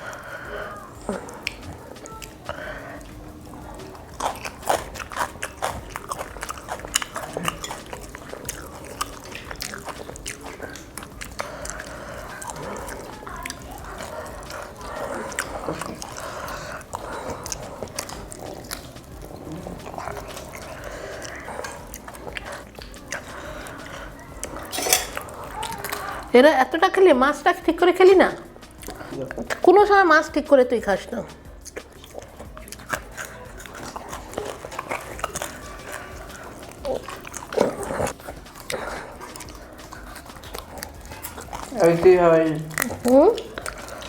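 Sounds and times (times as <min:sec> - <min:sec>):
chewing and biting food: 0:00.0 - 0:44.0.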